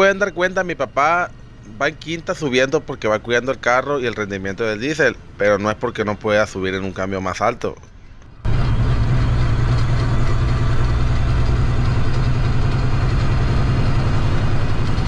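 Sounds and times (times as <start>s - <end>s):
truck diesel engine drone: 0.0s - 15.0s.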